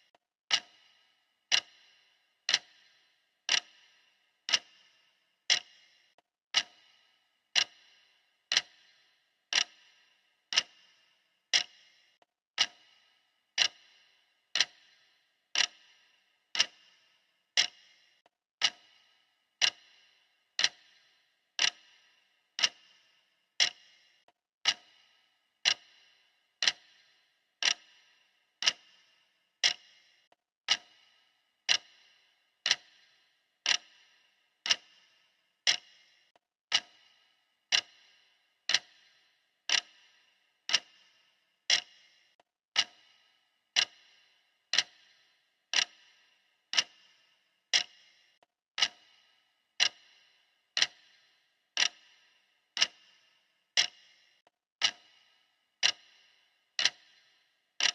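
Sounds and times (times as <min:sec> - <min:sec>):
clock ticking: 0:00.0 - 0:57.9.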